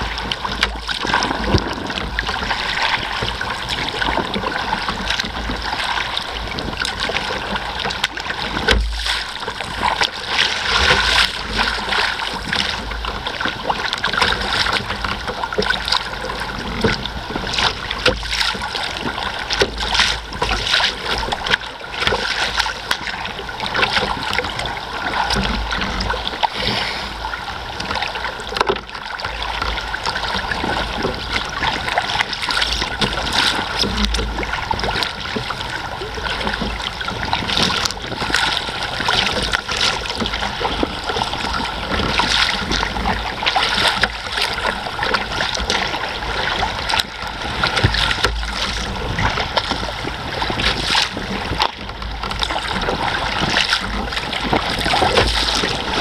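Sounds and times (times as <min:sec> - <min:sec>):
water slapping a kayak hull: 0:00.0 - 0:56.0
wind on microphone: 0:00.0 - 0:56.0.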